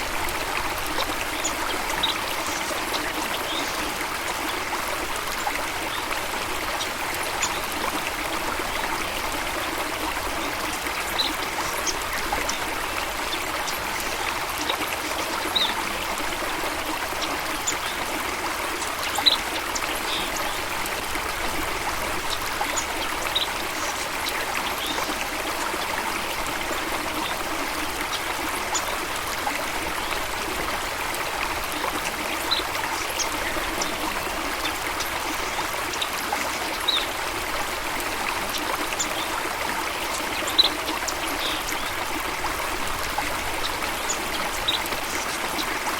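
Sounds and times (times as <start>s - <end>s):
flowing water rushing: 0.0s - 45.9s.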